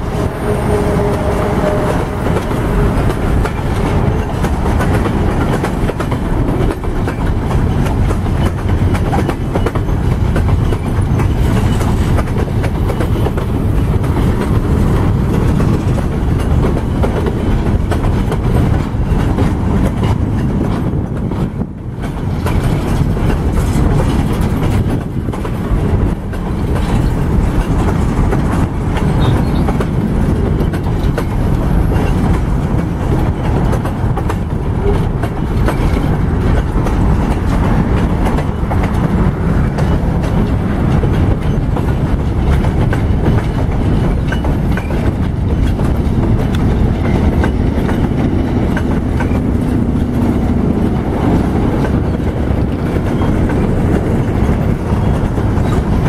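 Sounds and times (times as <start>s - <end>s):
heavy freight train rumble: 0.0s - 56.0s
steel wheels clicking over rail joints: 0.0s - 56.0s.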